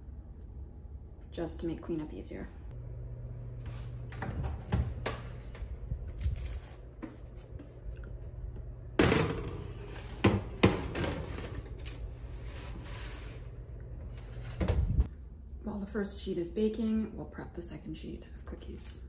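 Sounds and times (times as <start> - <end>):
steady low hum: 0.0 - 17.1.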